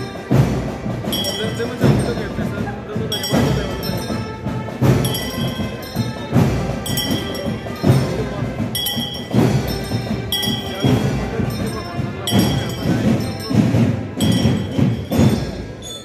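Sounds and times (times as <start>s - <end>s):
crowd murmuring: 0.0s - 16.0s
deep drum beats: 0.0s - 16.0s
metal hand bell ringing: 1.1s - 16.0s.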